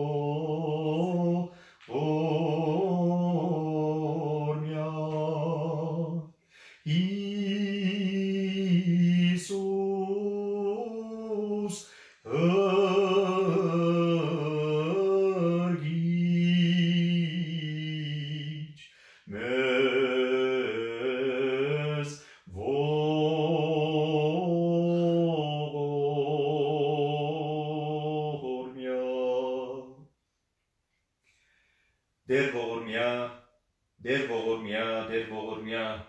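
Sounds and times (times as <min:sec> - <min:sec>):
man chanting: 0:00.0 - 0:30.0, 0:32.3 - 0:36.0.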